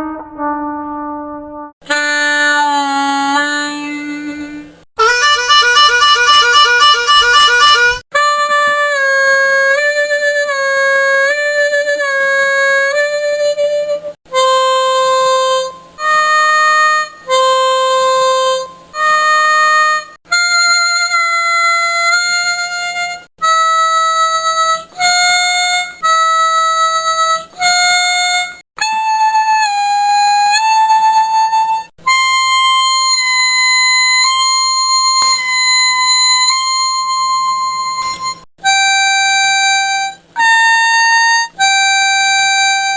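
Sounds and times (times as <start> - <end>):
harmonica playing: 0.0 - 42.9.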